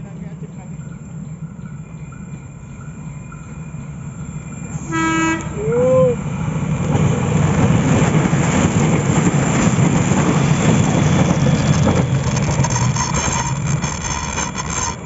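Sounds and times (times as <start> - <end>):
diesel train rumbling past: 0.0 - 15.0.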